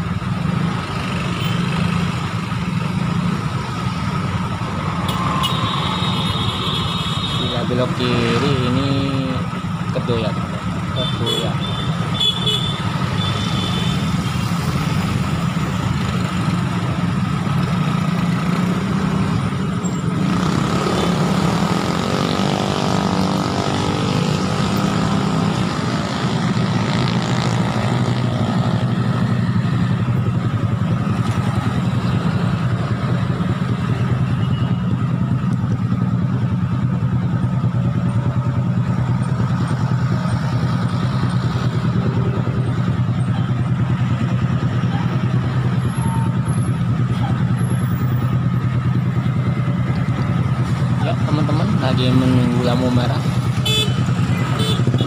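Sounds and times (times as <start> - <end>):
motorcycle engines idling: 0.0 - 55.0
road noise: 0.0 - 55.0.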